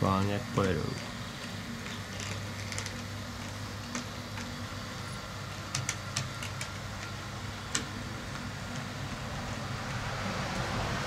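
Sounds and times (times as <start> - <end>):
wheels clicking over turnouts: 0.0 - 11.0.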